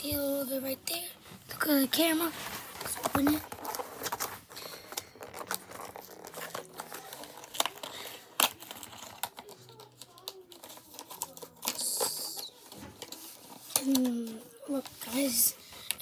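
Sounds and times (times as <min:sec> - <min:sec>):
packaging crinkling and tearing: 0:01.7 - 0:16.0.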